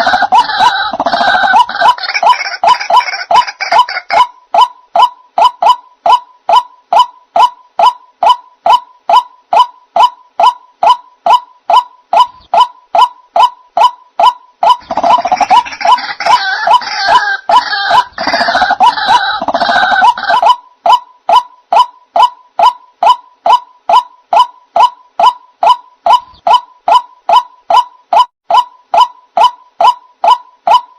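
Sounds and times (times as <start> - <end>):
harsh croaking bird calls: 0.0 - 30.9.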